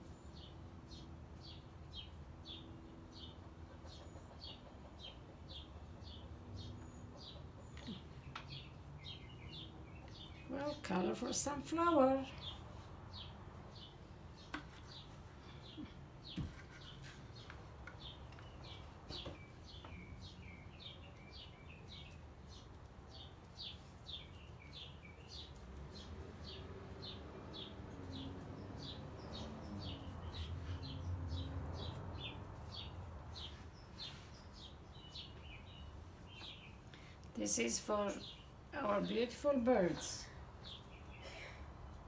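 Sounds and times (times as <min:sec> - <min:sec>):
small bird chirping: 0:00.0 - 0:11.1, 0:12.2 - 0:42.0.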